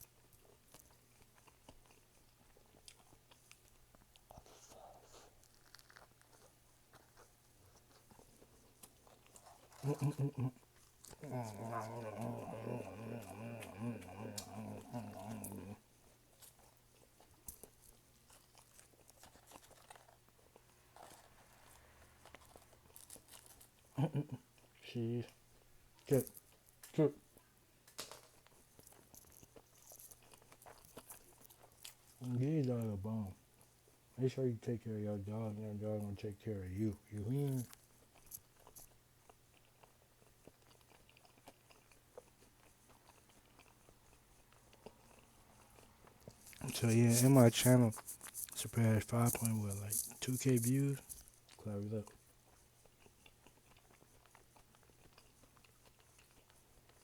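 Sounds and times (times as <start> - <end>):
person chewing food: 0.0 - 32.5, 35.9 - 57.0.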